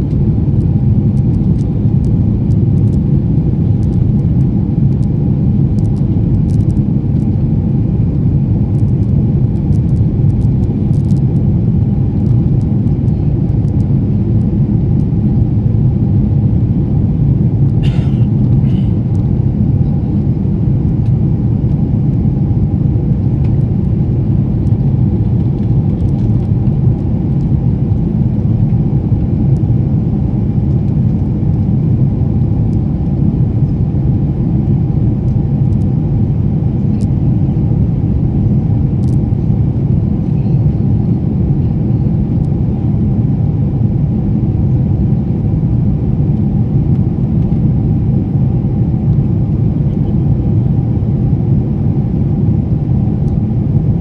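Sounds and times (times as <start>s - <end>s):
jet engines rumbling in cabin: 0.0s - 54.0s.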